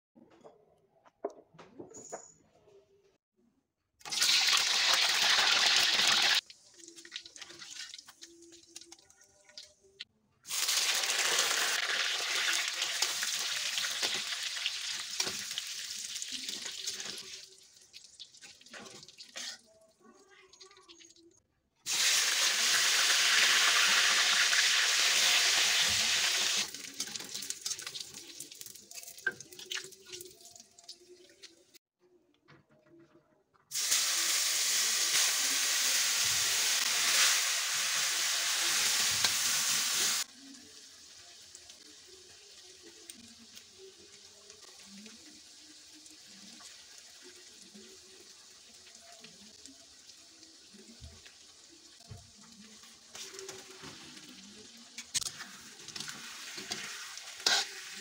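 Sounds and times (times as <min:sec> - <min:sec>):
food sizzling in hot oil: 0:04.0 - 0:19.8, 0:20.6 - 0:31.2, 0:33.7 - 0:58.0
chili sizzling in oil: 0:04.0 - 0:20.0, 0:20.6 - 0:31.8, 0:33.7 - 0:58.0.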